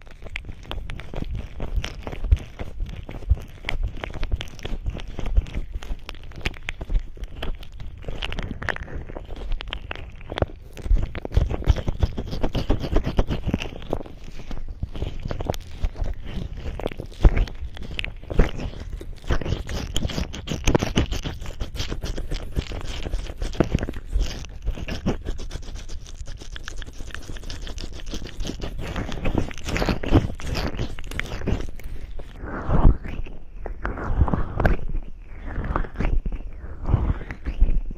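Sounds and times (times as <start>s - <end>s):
fingers rubbing microphone: 0.0s - 37.9s.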